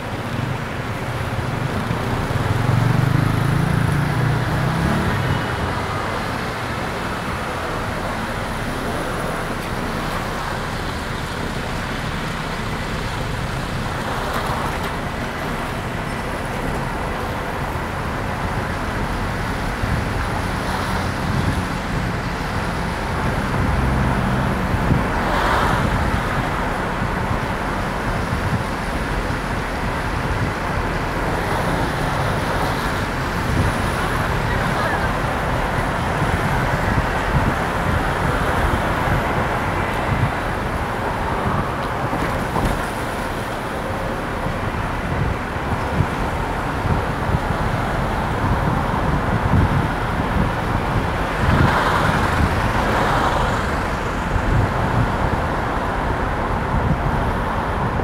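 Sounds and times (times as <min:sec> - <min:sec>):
low engine hum: 0:00.0 - 0:58.0
passing traffic: 0:00.0 - 0:58.0
tyre and road noise: 0:00.0 - 0:58.0.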